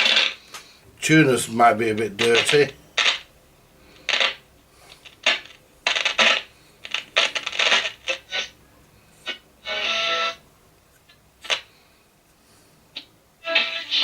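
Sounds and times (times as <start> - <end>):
radio crackle and hiss: 0.0 - 10.4, 11.0 - 11.8, 12.9 - 14.0.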